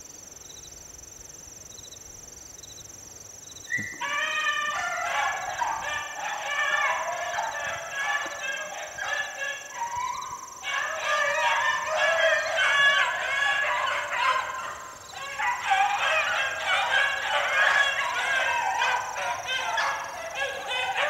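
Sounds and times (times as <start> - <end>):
hounds baying: 3.7 - 21.0.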